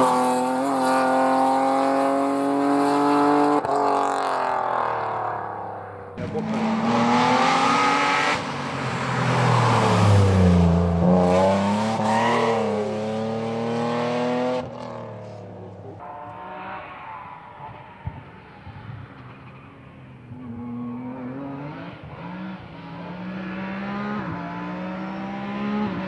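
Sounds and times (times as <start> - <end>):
rally car engine revving: 0.0 - 5.4, 6.2 - 17.9, 20.3 - 26.0.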